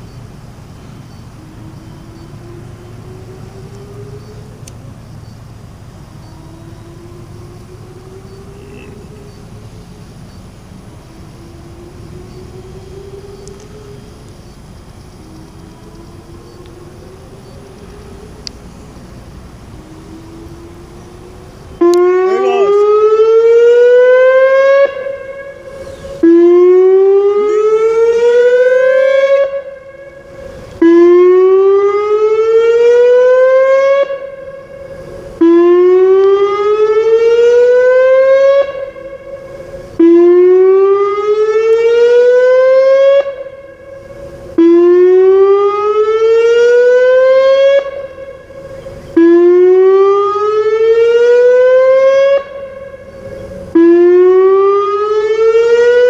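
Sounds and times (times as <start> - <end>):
electronic warning siren: 1.3 - 4.7, 6.2 - 9.9, 10.7 - 56.0.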